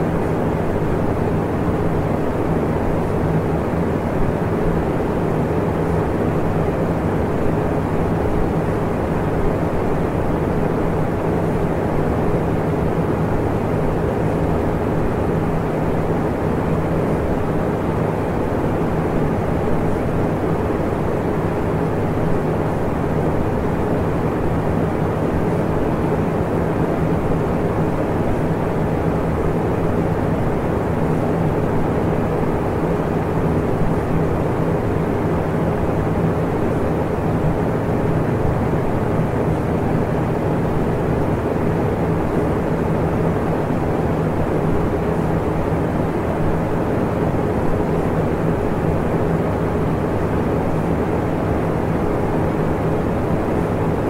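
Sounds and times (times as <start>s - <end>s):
faint hum: 0.0s - 54.0s.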